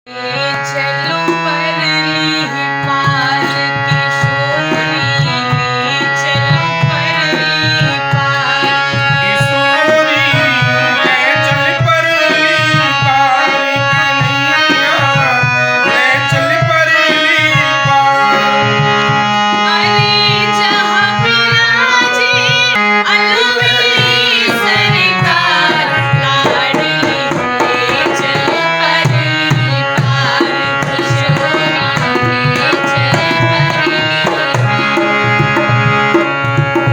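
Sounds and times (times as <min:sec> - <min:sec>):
person singing ornamented lines: 0:00.1 - 0:36.2
tabla rhythm: 0:00.1 - 0:36.9.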